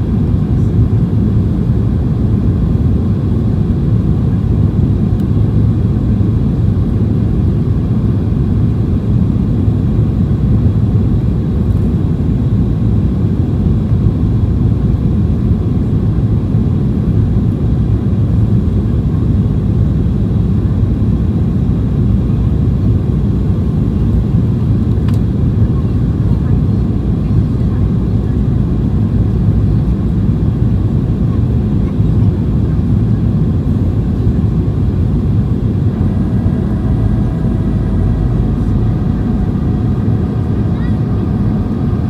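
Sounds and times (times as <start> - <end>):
airplane cabin engine rumble: 0.0 - 42.0.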